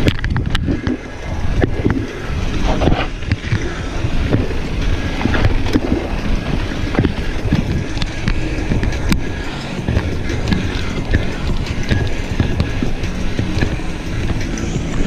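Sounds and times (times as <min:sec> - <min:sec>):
bike knocking and rattling: 0:00.0 - 0:15.0
bike tyres on dirt and rock: 0:00.0 - 0:15.0
wind rushing over microphone: 0:00.0 - 0:15.0.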